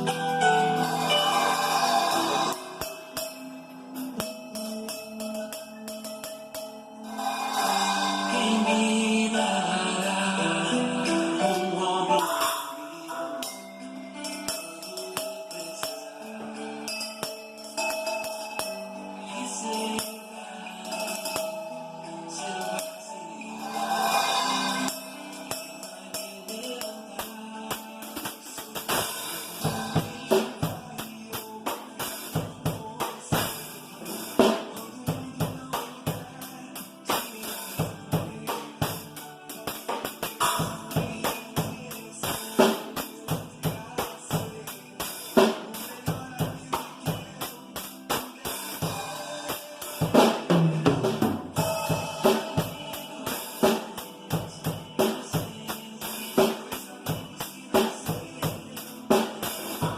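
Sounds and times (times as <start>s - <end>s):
drum kit playing a steady beat: 0.0s - 59.9s
recorded pop-rock song: 0.0s - 59.9s.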